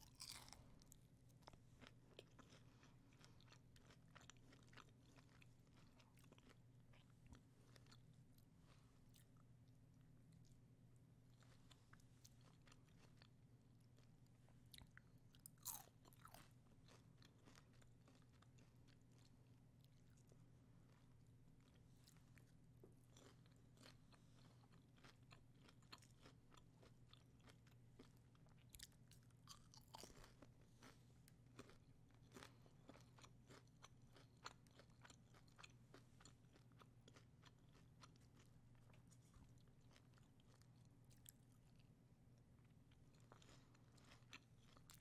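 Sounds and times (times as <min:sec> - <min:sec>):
crunchy chewing: 0:00.0 - 0:09.4, 0:13.9 - 0:41.8, 0:42.9 - 0:45.0
faint low hum: 0:00.0 - 0:45.0.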